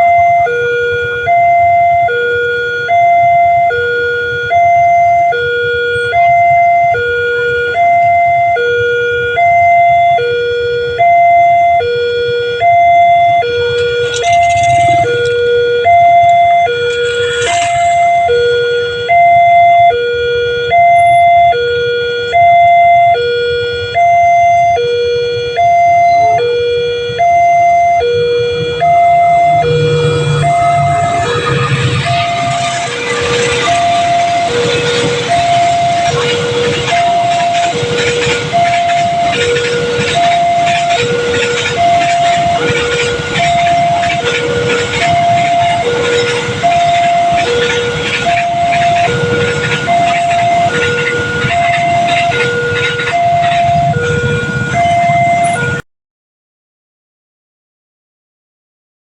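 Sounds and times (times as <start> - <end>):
level crossing two-tone alarm: 0.0 - 55.8.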